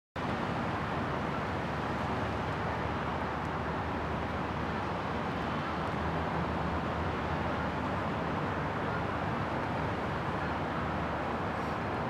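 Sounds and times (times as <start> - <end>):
city traffic noise: 0.2 - 12.0.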